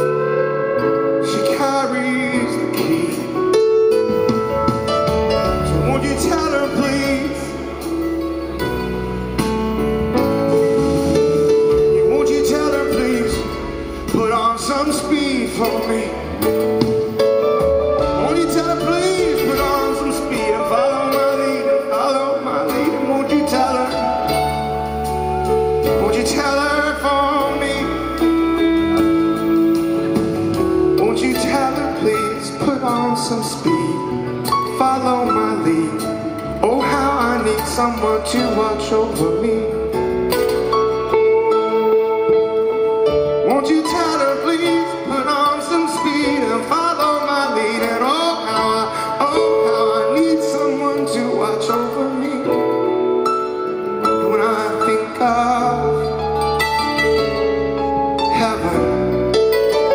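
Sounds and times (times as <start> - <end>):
man singing lead: 0.0 - 8.7, 10.5 - 59.9
bass guitar: 0.0 - 59.9
drums: 0.0 - 59.9
electric guitars: 0.0 - 59.9.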